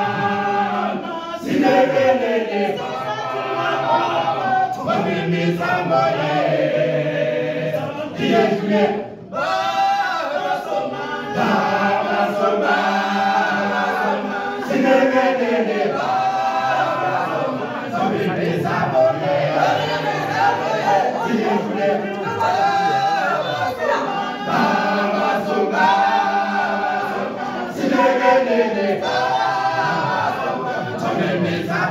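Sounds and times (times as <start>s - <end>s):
male choir singing a cappella: 0.0s - 31.9s.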